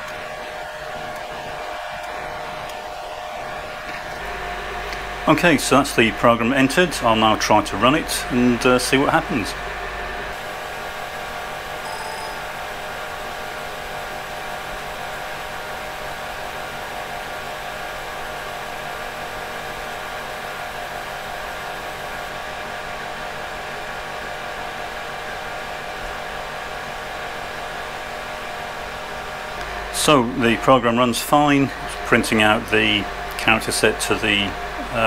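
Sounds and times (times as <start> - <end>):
computer cooling fan whirring: 0.0 - 35.0.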